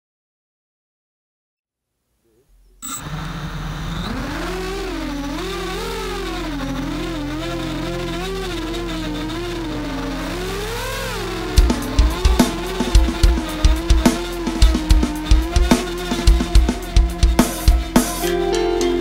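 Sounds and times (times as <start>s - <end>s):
quadcopter motors whining: 2.6s - 18.3s.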